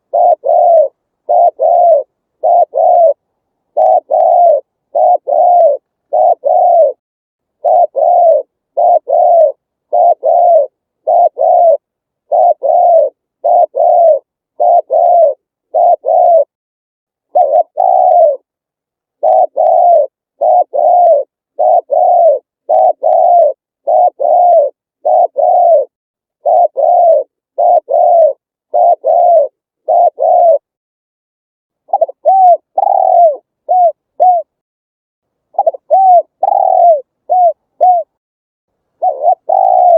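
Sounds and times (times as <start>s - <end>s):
dove cooing: 0.0s - 7.0s, 7.6s - 16.6s, 17.3s - 18.5s, 19.2s - 30.7s, 31.9s - 34.6s, 35.5s - 38.2s, 39.0s - 39.9s.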